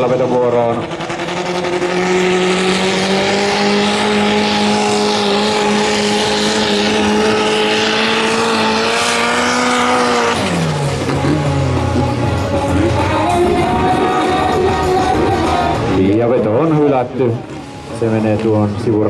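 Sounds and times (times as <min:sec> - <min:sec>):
diesel tractor engine at full throttle: 0:00.0 - 0:19.0.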